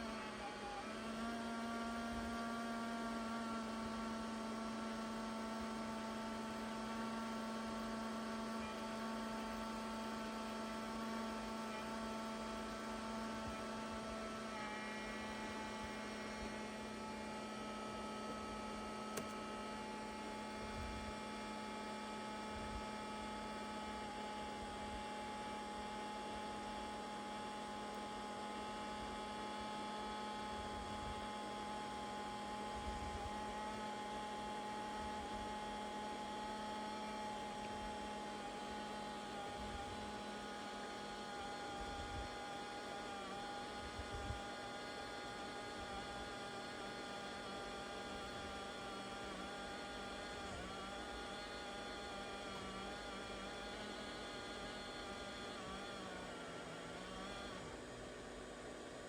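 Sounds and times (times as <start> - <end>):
laptop hum: 0.0 - 59.0.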